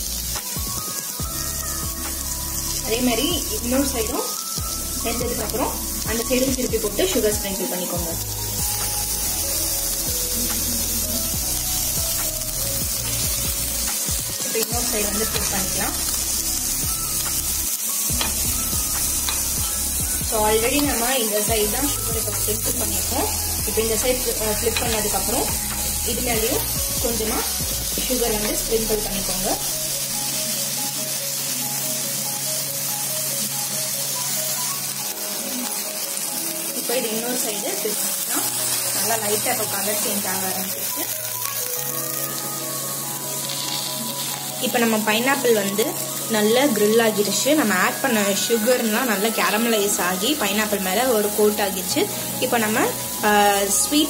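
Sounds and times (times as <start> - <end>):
background music: 0.0 - 54.0
fruit sizzling in a pan: 0.0 - 54.0.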